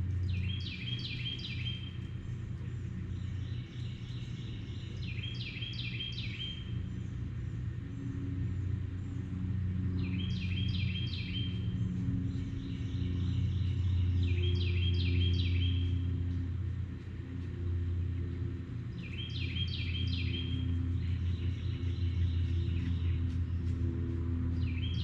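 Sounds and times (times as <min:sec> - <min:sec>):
songbird singing: 0:00.0 - 0:25.0
steady low rumble: 0:00.0 - 0:25.0.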